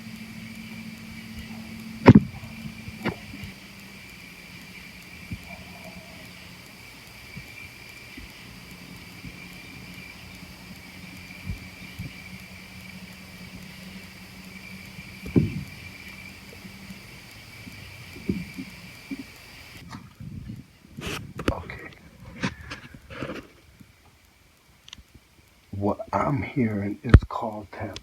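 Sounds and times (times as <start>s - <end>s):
low steady hum: 0.0s - 28.0s
night insects chirring: 0.0s - 28.0s.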